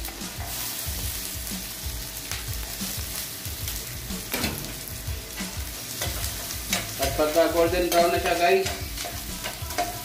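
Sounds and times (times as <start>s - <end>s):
garlic and onion sizzling in butter: 0.0s - 10.0s.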